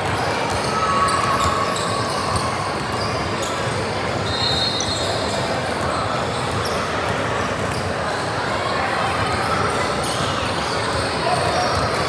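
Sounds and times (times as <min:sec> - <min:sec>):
echoing voices in gym: 0:00.0 - 0:12.0.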